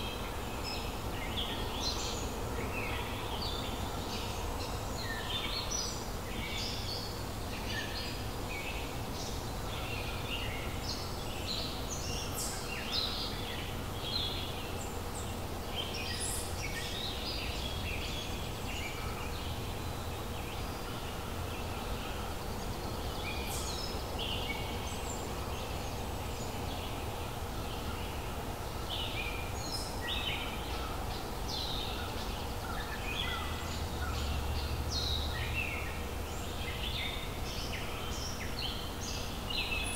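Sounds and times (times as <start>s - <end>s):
birds chirping and trilling: 0.0s - 39.9s
low background noise: 0.0s - 39.9s.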